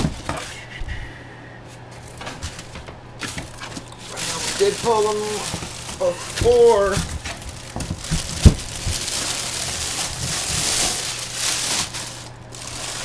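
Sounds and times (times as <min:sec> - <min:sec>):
packaging rustling and crinkling: 0:01.9 - 0:13.0.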